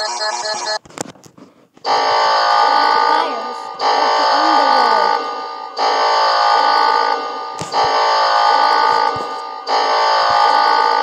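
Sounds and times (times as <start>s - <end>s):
emergency alert alarm tone: 1.8s - 11.0s.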